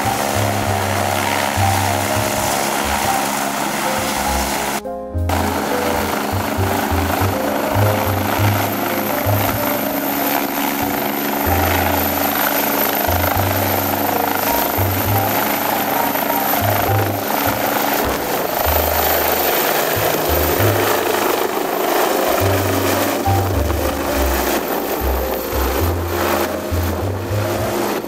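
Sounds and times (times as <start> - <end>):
helicopter engine and rotor: 0.0 - 28.0
music: 0.0 - 28.0.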